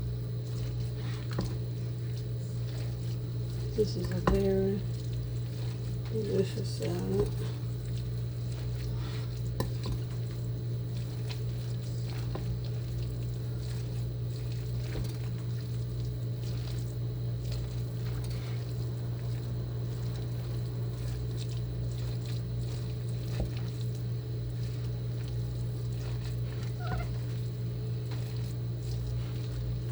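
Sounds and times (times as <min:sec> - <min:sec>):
steady low hum: 0:00.0 - 0:29.9
spoon stirring salad in bowl: 0:00.4 - 0:29.9.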